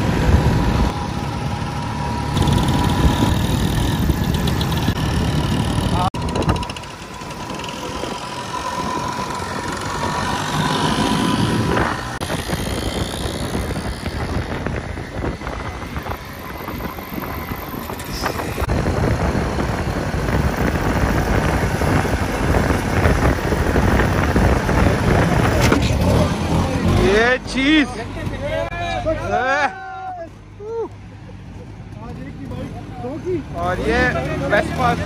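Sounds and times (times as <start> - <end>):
scooter engines running: 0.0 - 35.0
wind and road noise: 0.0 - 35.0.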